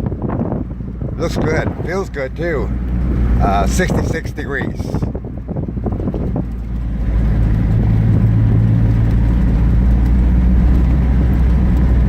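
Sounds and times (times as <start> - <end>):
motor vehicle engine rumble: 0.0 - 12.0.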